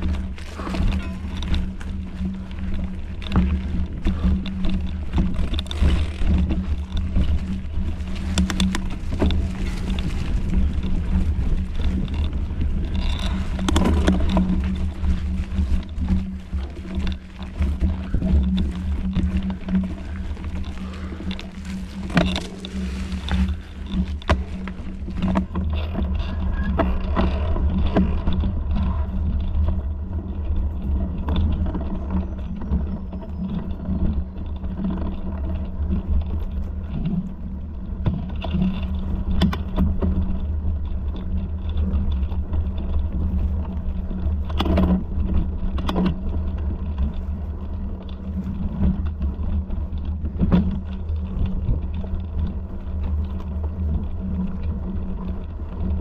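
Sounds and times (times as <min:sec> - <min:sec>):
low rumble with hum: 0:00.0 - 0:56.0
sharp clicks and rattles: 0:00.0 - 0:56.0.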